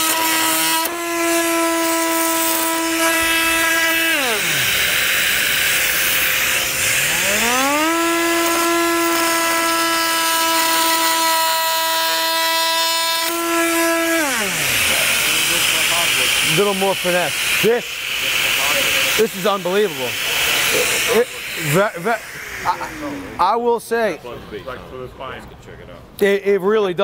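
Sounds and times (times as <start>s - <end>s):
dust extractor hiss: 0.0s - 9.3s, 10.1s - 23.7s
oscillating multi-tool cutting wood: 0.0s - 23.7s.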